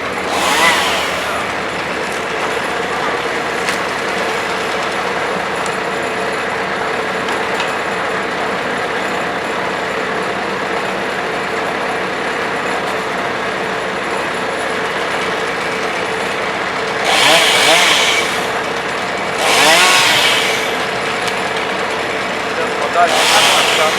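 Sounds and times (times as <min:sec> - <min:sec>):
wood chipper running: 0:00.0 - 0:23.9.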